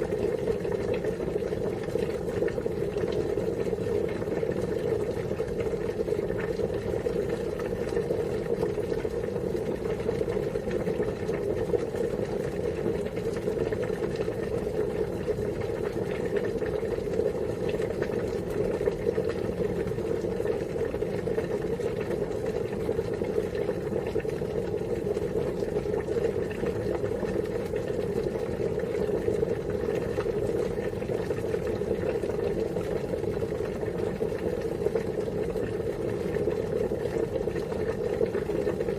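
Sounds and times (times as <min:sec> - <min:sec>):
water boiling in a pot: 0:00.0 - 0:38.9.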